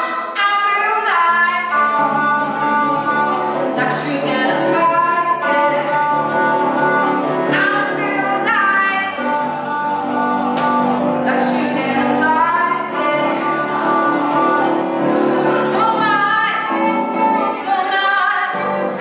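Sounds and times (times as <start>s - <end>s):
stage piano: 0.0s - 19.0s
woman singing long notes: 0.0s - 19.0s.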